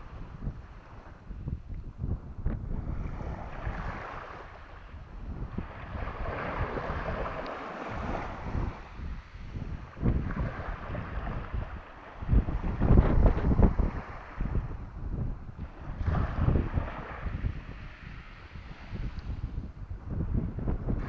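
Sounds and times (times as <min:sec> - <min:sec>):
rush of sea water: 0:00.0 - 0:21.0
wind buffeting microphone: 0:00.0 - 0:21.0.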